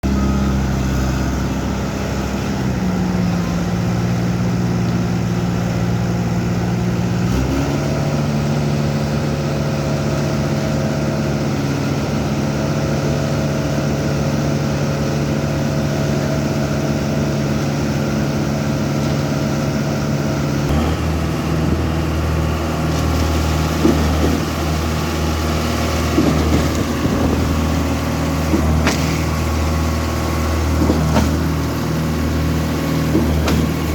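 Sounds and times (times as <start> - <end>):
concrete mixer engine running: 0.0 - 33.9.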